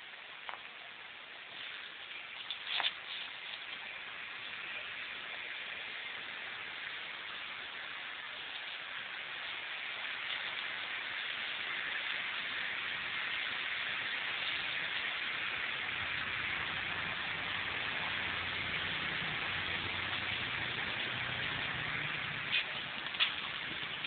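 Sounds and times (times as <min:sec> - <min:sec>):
faint low hum: 0:00.0 - 0:24.0
steady hiss: 0:00.0 - 0:24.0.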